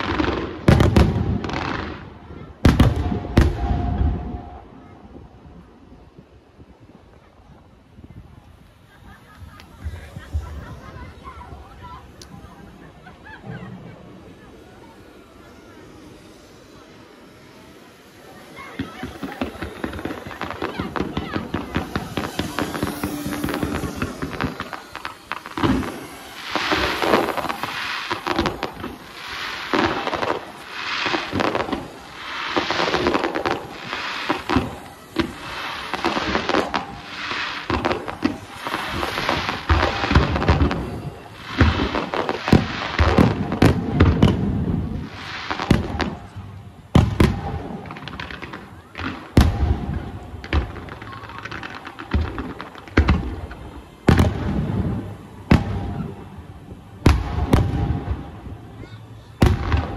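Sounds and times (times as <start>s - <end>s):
fireworks crackling and booming: 0.0s - 59.9s.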